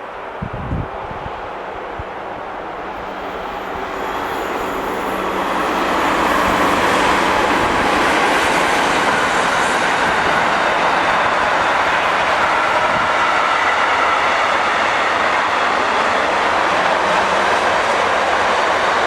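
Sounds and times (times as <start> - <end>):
train passing close by: 0.0 - 19.0.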